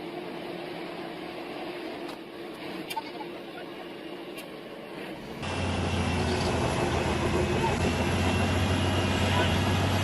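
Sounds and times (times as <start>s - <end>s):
machinery engine noise: 0.0s - 10.0s.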